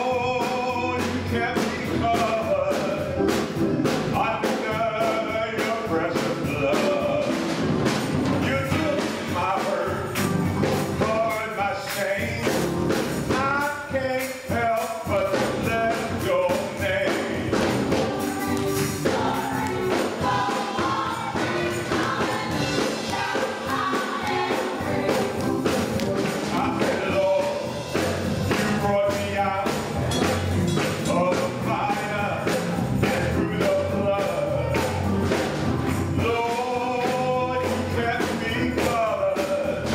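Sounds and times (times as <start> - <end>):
gospel choir with band: 0.0 - 39.9
tambourine: 0.0 - 39.9.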